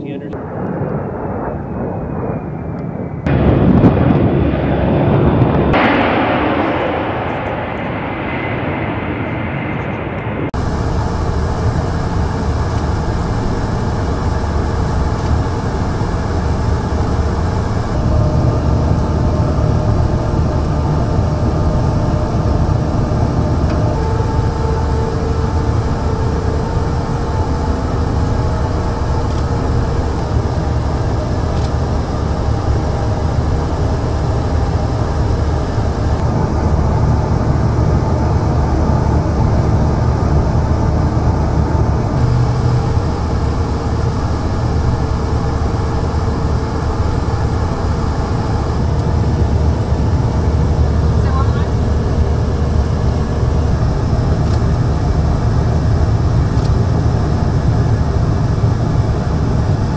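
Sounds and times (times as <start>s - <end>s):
faint steady tones: 0.0s - 59.8s
heavy aircraft rumble: 0.0s - 59.9s
jet engines with high whine: 0.0s - 59.9s.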